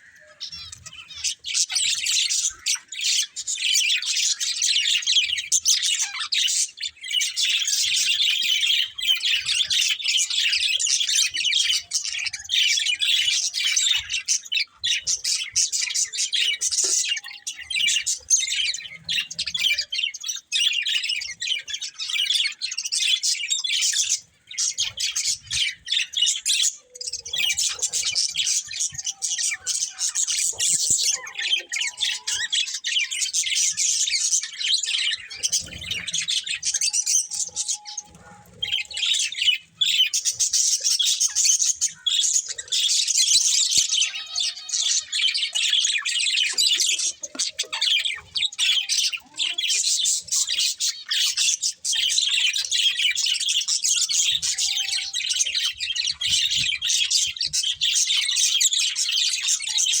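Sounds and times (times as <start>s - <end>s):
budgerigars chattering: 0.0s - 60.0s.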